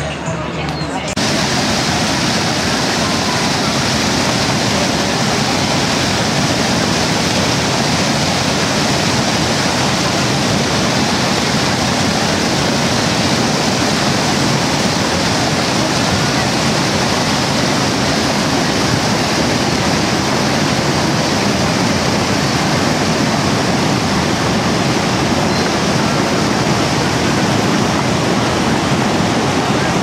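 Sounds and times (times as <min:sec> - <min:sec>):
waterfall rushing: 0:01.1 - 0:30.0.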